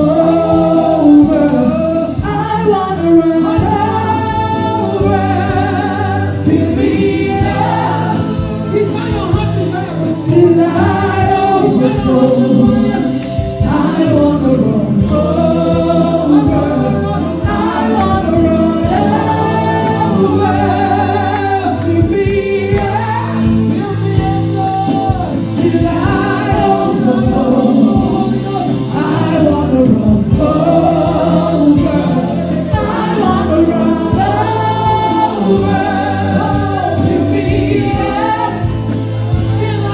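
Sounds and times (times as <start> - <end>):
group singing along: 0.0 - 39.9
instrumental backing with a beat: 0.0 - 39.9
woman singing into a microphone: 0.0 - 39.9.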